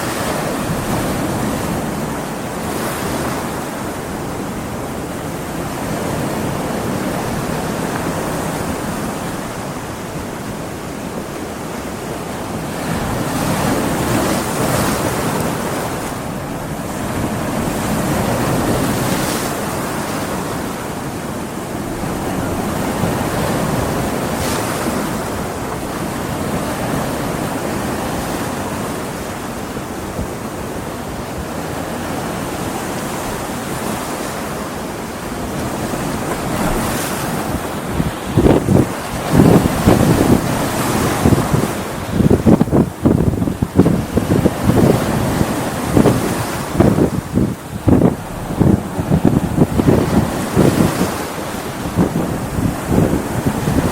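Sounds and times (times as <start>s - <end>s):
ocean waves breaking: 0.0s - 53.9s
wind: 0.0s - 53.9s.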